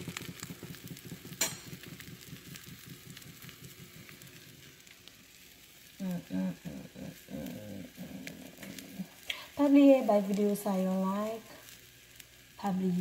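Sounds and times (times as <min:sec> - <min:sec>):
sandwich sizzling in frying pan: 0:00.0 - 0:13.0.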